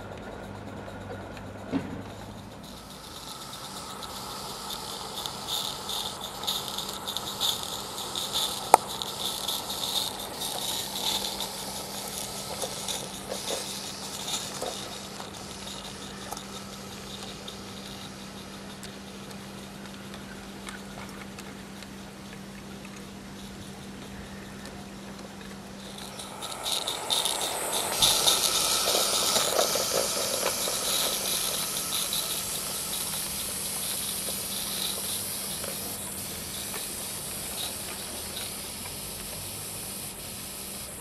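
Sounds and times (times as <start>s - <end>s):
wagons rattling on track: 0.0s - 21.4s, 25.8s - 39.9s
model locomotive steam hiss: 0.0s - 41.0s.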